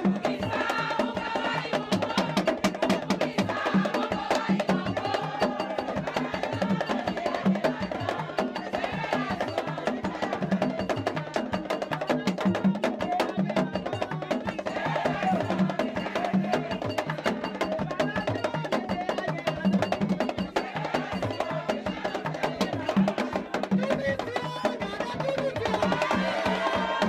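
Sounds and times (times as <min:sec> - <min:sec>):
hand drums beating: 0:00.0 - 0:27.0
voices singing a chant: 0:00.0 - 0:27.0.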